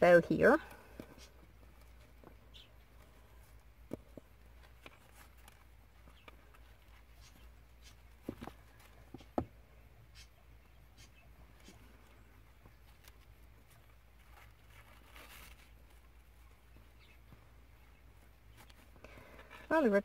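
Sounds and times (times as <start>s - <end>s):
soft ribbon rustling: 0.0s - 20.0s.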